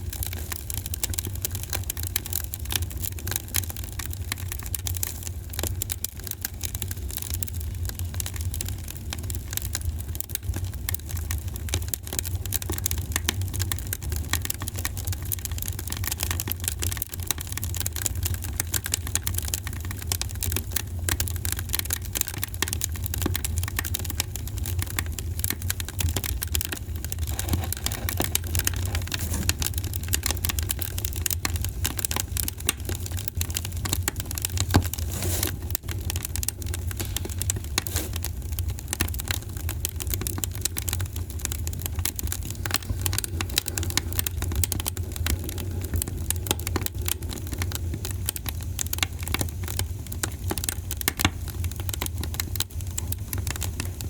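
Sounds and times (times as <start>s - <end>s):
low rumble of fire: 0.0s - 54.0s
wood fire crackling: 0.0s - 54.0s.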